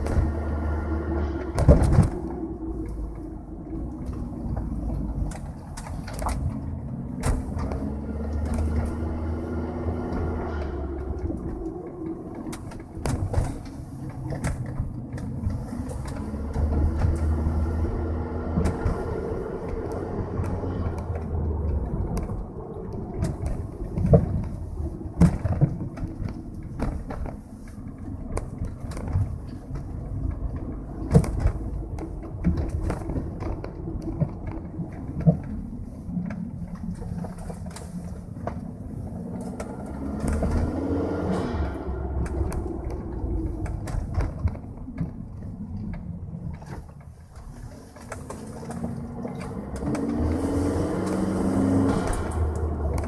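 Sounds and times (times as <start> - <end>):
car engine running: 0.0 - 45.6
road noise: 0.0 - 53.0.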